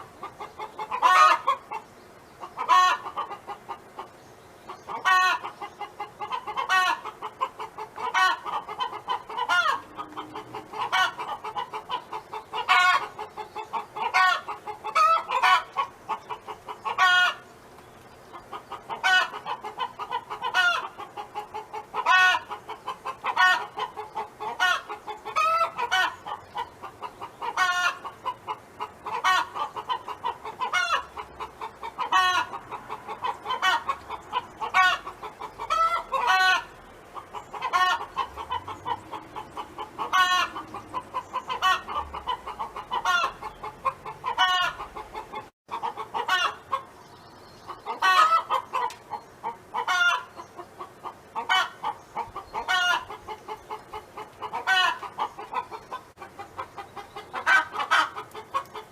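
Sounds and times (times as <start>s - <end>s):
hen clucking: 0.0s - 58.9s
hen drawn-out call: 0.2s - 3.7s, 4.7s - 17.5s, 18.4s - 46.9s, 47.7s - 58.9s.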